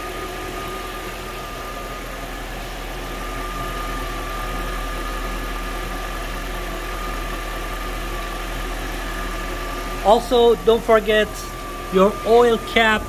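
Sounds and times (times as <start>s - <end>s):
car engine idling: 0.0s - 13.0s
steady high whine: 0.0s - 13.0s.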